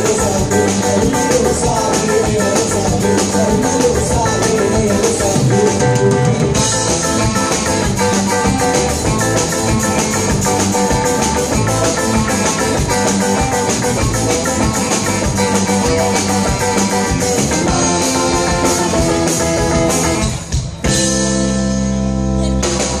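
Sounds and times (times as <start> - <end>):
bass guitar: 0.0 - 23.0
distorted electric guitar: 0.0 - 23.0
drum kit: 0.0 - 23.0.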